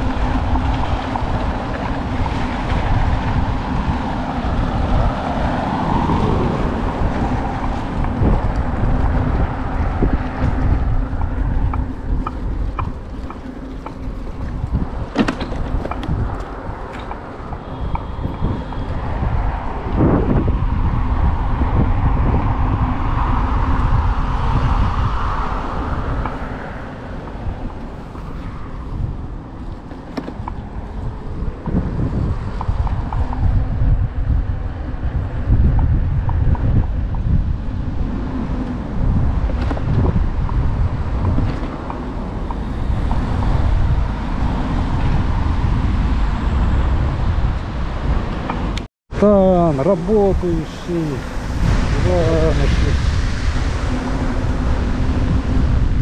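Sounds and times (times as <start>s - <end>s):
tyre noise on asphalt: 0.0s - 56.0s
wind rushing over microphone: 0.0s - 56.0s.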